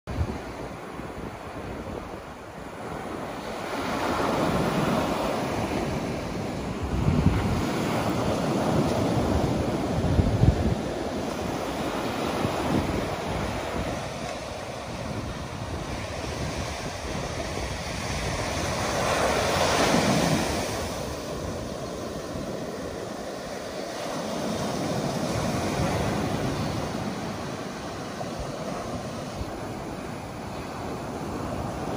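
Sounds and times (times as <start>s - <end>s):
waves breaking on beach: 0.1s - 31.9s.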